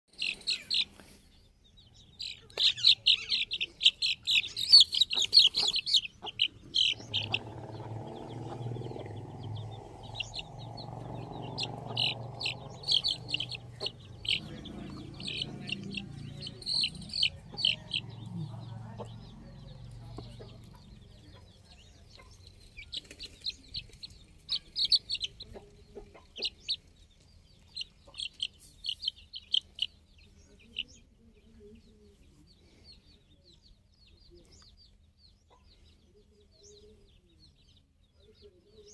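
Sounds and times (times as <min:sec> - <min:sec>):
chicks peeping: 0:00.1 - 0:38.9.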